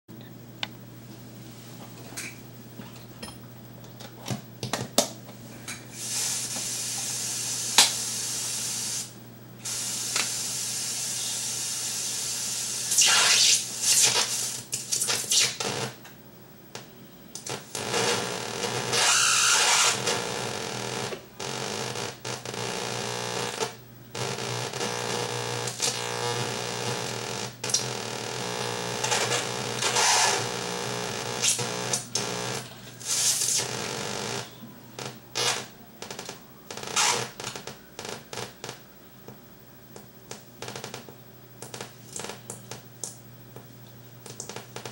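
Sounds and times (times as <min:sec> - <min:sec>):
buzzing static noise: 0:00.1 - 0:44.9.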